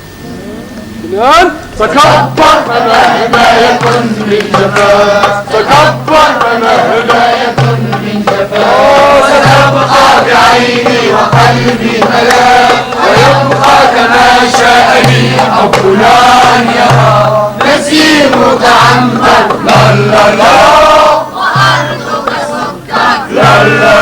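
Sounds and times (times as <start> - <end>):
low repeating beat: 1.1 - 24.0
group chanting in unison: 1.8 - 24.0.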